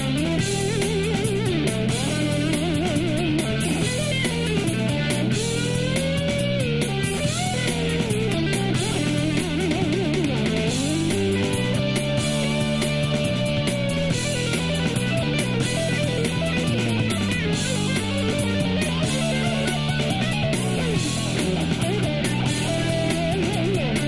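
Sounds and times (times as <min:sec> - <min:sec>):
electric ukulele lead melody: 0:00.0 - 0:24.0.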